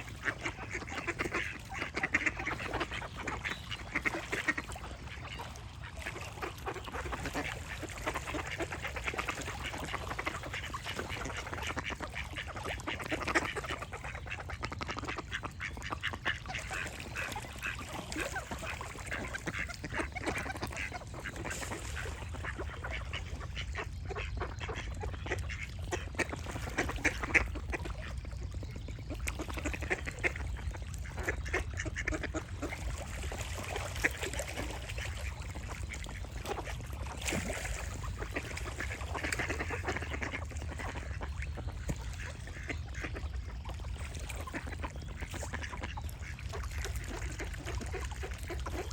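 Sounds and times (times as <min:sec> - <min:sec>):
ducks quacking: 0:00.0 - 0:48.9.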